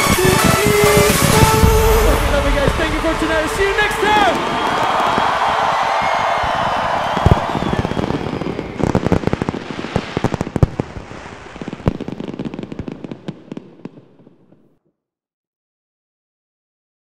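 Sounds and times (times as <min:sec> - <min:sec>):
fireworks bangs and crackles: 0:00.0 - 0:14.6.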